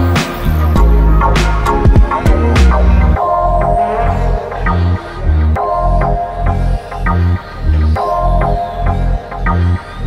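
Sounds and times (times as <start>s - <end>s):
electronic music with bass beat: 0.0s - 10.0s.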